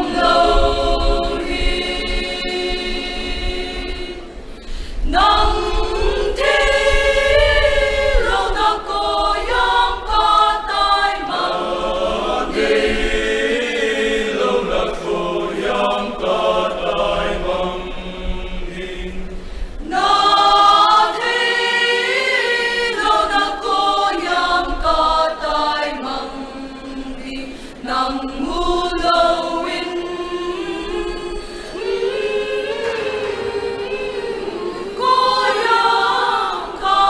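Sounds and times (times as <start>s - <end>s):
mixed choir singing: 0.0s - 37.0s.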